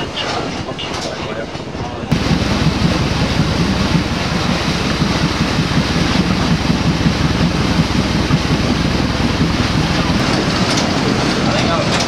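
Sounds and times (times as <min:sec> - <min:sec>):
wind on microphone: 0:01.6 - 0:11.6
paddle wheel churning water: 0:02.1 - 0:12.0.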